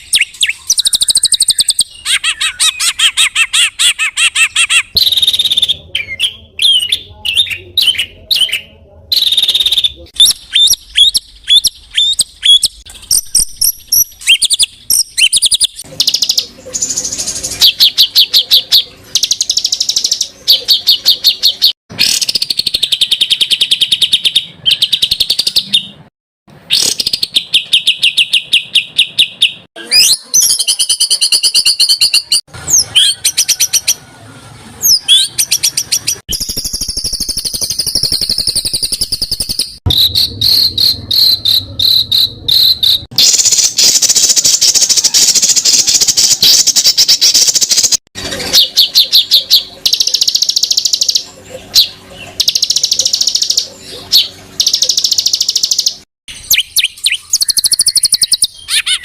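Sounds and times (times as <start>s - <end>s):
songbirds trilling and whistling: 0.0s - 59.0s.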